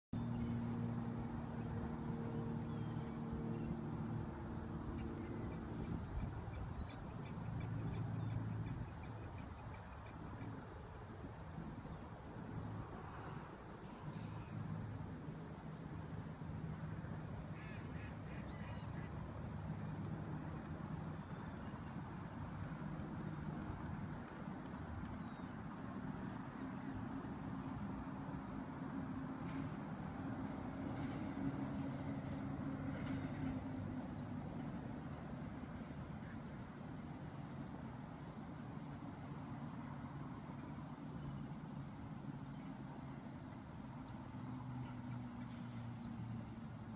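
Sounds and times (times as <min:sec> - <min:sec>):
distant road traffic hum: 0:00.2 - 0:46.9.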